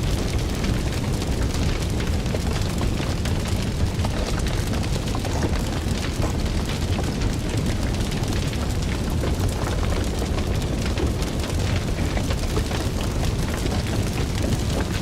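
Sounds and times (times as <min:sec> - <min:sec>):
fire crackling and rumbling: 0:00.0 - 0:15.0.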